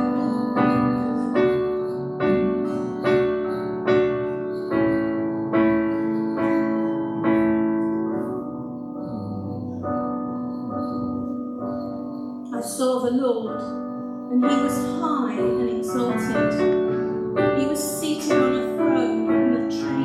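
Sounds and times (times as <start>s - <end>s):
slow piano chords ringing: 0.0s - 20.0s.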